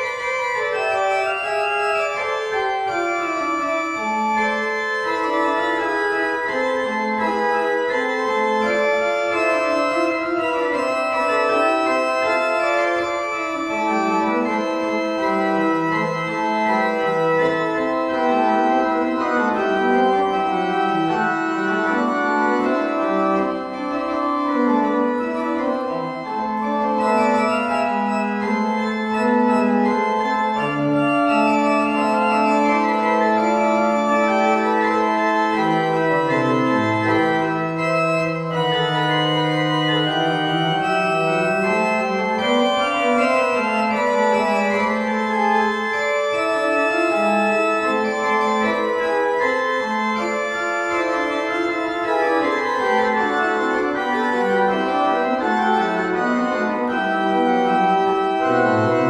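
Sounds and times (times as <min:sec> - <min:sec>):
church pipe organ chords: 0:00.0 - 0:59.0.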